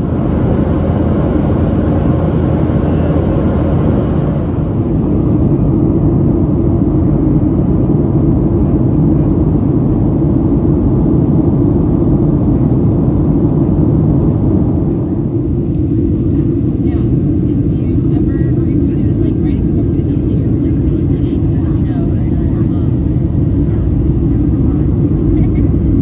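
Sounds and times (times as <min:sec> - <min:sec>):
airplane cabin rumble: 0:00.0 - 0:26.0.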